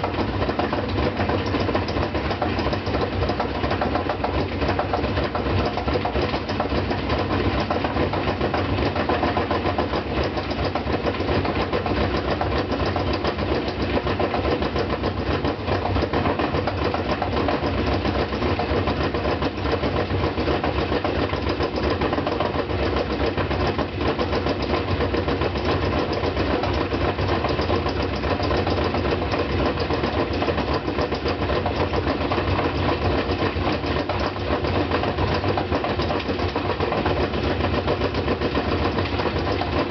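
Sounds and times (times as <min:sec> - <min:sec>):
rapid knocking: 0:00.0 - 0:39.9
washing machine spinning: 0:00.0 - 0:39.9.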